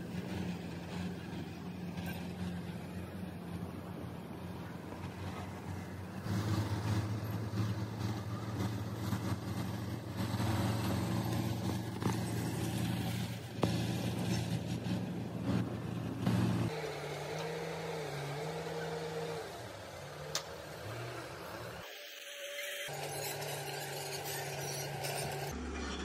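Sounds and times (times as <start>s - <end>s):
excavator diesel engine running: 0.0s - 21.8s.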